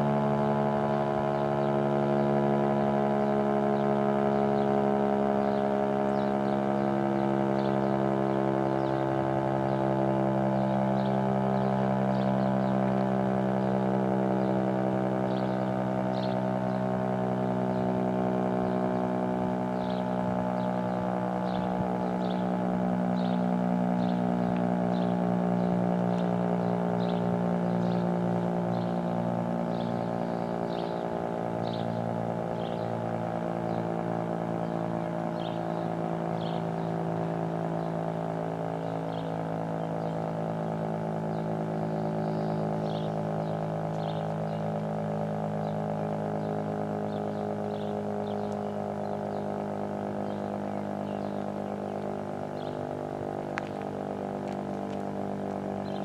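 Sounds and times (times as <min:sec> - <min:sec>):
warning siren steady tone: 0:00.0 - 0:56.0
birds chirping: 0:00.1 - 0:56.0.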